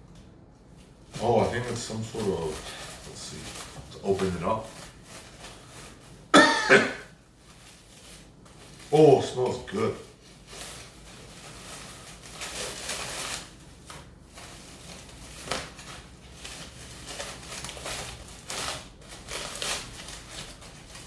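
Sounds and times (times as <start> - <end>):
plastic packaging rustling: 0.1 - 21.0.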